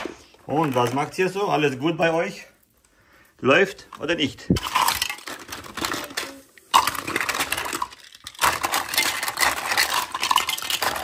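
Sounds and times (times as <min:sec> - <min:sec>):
plastic toys clattering: 0:00.0 - 0:02.4, 0:03.9 - 0:11.0.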